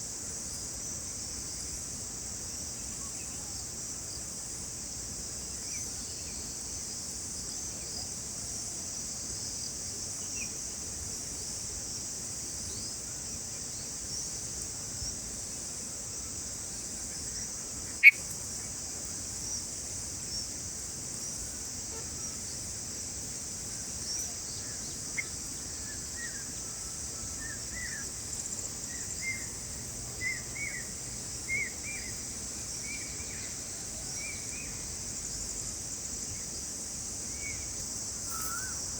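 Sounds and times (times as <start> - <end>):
high-pitched insect chorus: 0.1 - 38.9.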